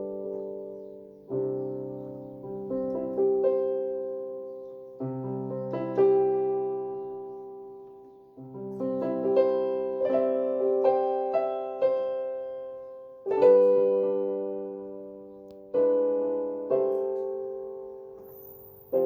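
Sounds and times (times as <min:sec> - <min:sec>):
piano notes and chords: 0:00.0 - 0:19.0.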